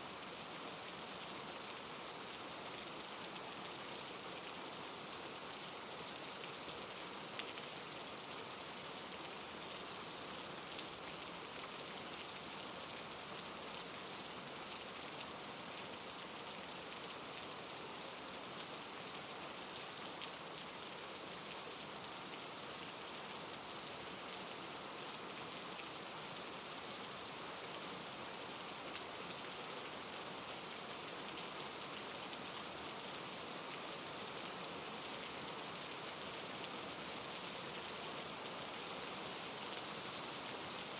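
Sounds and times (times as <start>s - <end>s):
soft rain falling: 0.0s - 40.9s.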